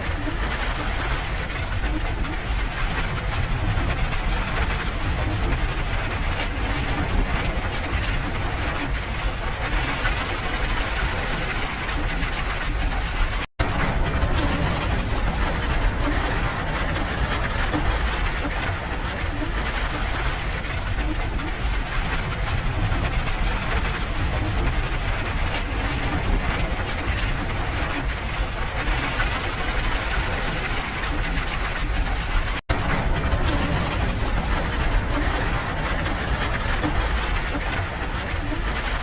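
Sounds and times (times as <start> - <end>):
heavy low rumble: 0.0 - 39.0
steady rain: 0.0 - 39.0.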